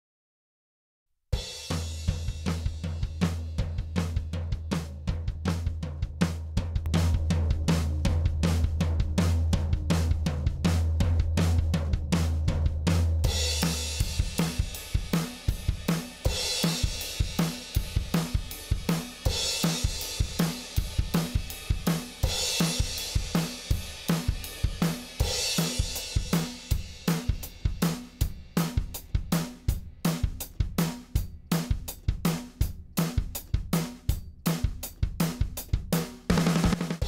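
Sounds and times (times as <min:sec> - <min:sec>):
drum kit groove: 0:01.4 - 0:37.0.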